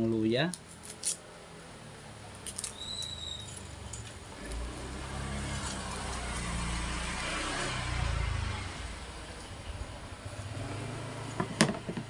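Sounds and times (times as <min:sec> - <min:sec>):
vehicle engine rumble: 0:01.3 - 0:12.0.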